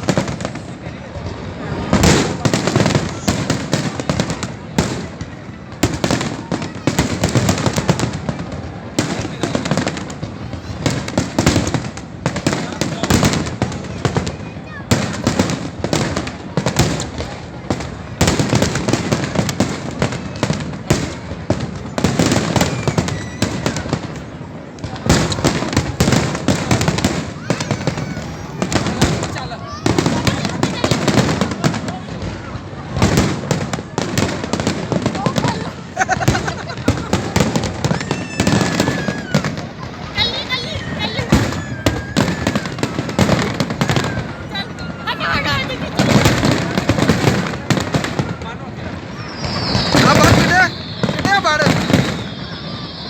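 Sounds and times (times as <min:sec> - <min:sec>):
fireworks bangs and crackling: 0:00.0 - 0:53.0
loud firework booms: 0:00.0 - 0:53.0.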